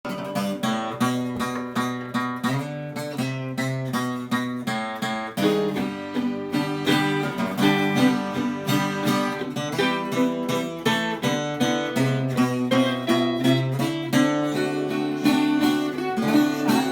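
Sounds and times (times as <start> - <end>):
acoustic guitar strumming chords: 0.1 - 16.9.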